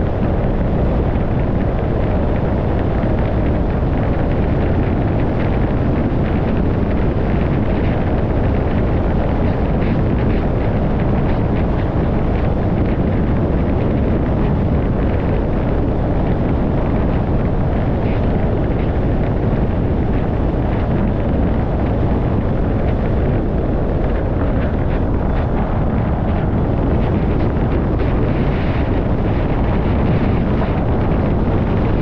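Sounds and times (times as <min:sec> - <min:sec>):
car road and wind noise: 0:00.0 - 0:32.0.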